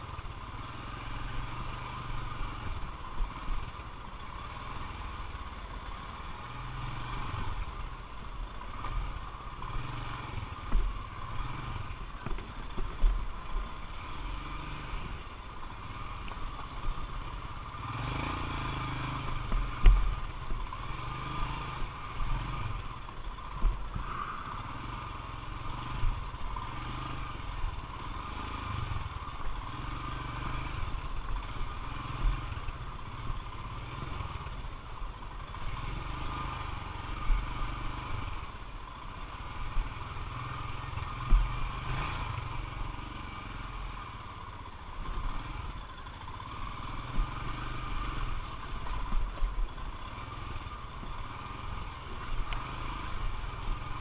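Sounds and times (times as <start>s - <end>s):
motorcycle engine at low revs: 0.0s - 54.0s.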